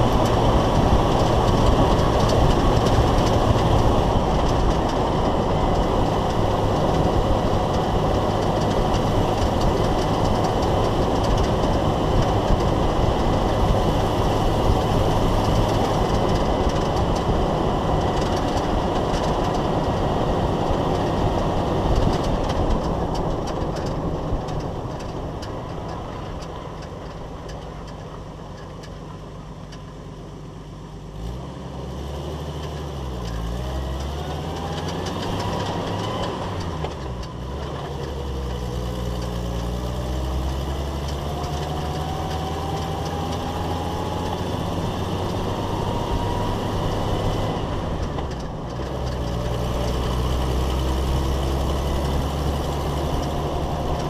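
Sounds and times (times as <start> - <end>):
tyre and drivetrain road noise: 0.0 - 54.0.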